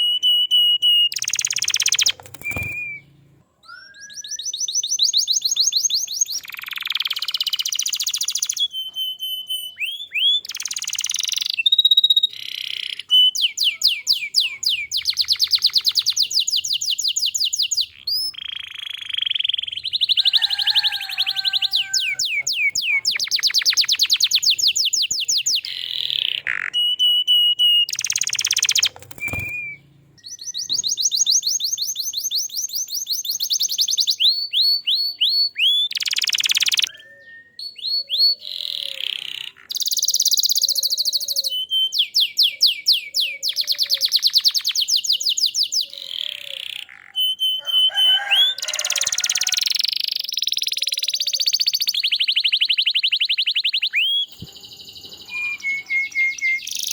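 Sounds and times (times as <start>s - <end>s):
canary singing trills and chirps: 0.0s - 56.9s.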